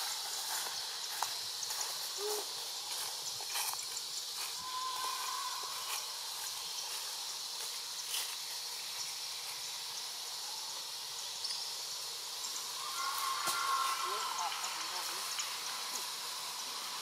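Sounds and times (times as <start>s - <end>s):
steady high-pitched hiss: 0.0s - 17.0s.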